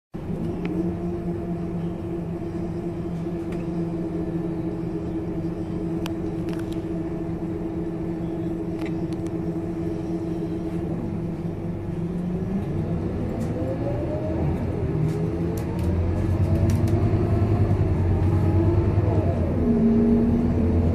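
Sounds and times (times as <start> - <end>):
diesel bus engine idling: 0.2 - 20.9.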